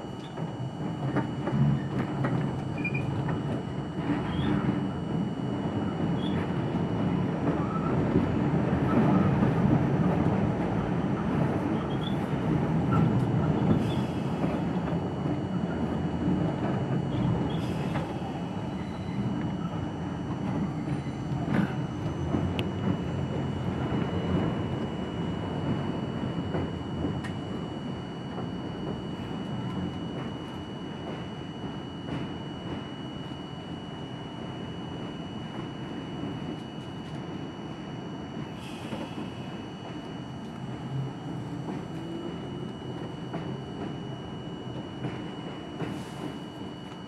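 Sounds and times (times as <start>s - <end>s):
subway car wheels rumbling: 0.0s - 47.0s.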